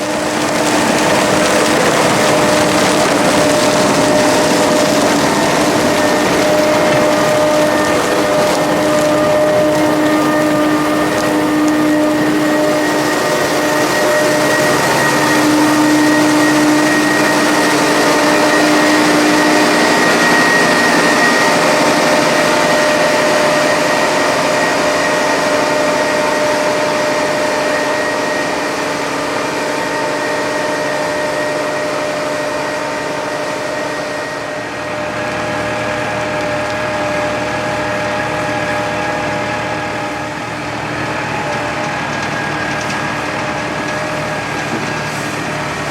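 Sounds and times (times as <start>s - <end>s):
machinery whining hum: 0.0s - 45.9s
rushing noise: 0.0s - 45.9s.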